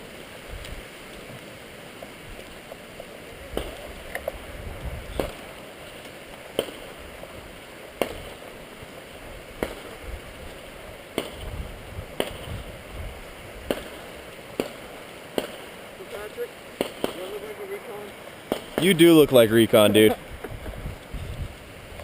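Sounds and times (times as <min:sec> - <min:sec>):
crunching footsteps: 0:00.5 - 0:12.8, 0:13.6 - 0:21.6.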